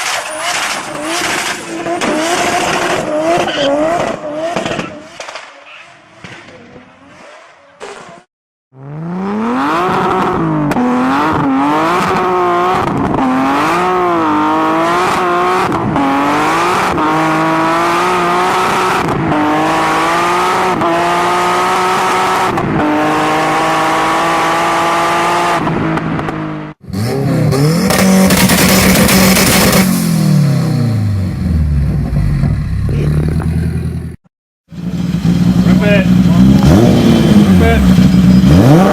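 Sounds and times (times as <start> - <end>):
car engine revving: 0.4 - 7.9, 8.7 - 34.1, 34.8 - 38.9.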